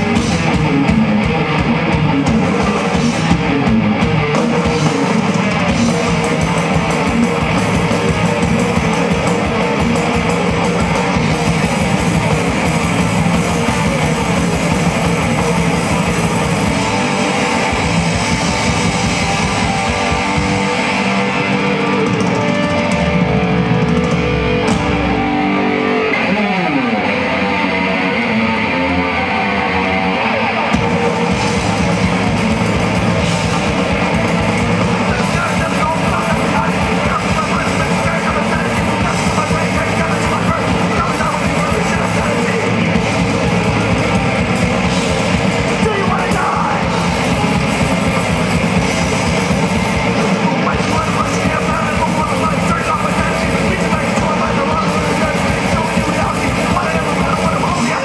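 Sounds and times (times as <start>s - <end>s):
fast drumming: 0.0s - 25.4s, 30.7s - 58.0s
bass guitar: 0.0s - 58.0s
distorted electric guitars: 0.0s - 58.0s.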